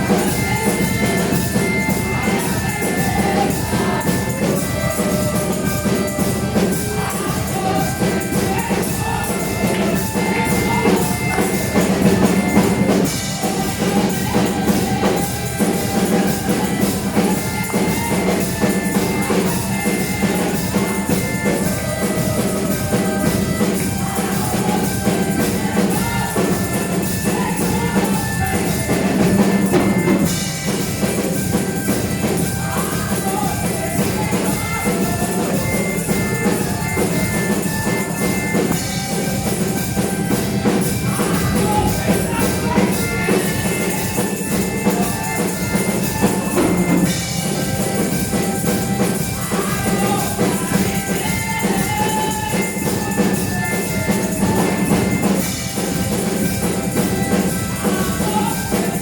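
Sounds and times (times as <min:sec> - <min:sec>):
drums: 0:00.0 - 0:59.0
singing: 0:00.0 - 0:59.0
tambourine: 0:00.0 - 0:59.0.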